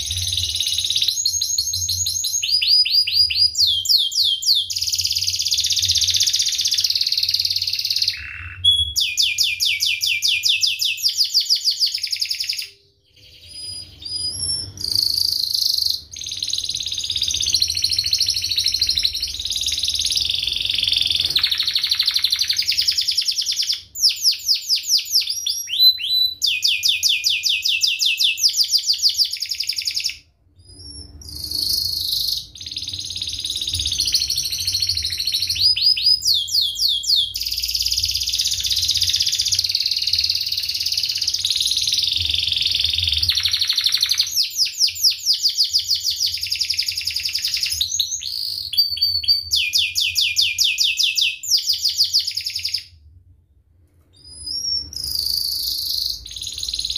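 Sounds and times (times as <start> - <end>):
canary singing trills and chirps: 0.0 - 53.0, 54.2 - 56.9.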